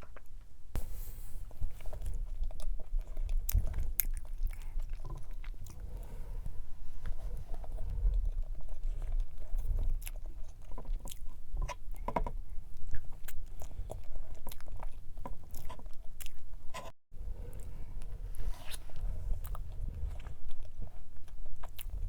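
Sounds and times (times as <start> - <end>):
close chewing mouth sounds: 1.6 - 16.9, 17.5 - 22.0.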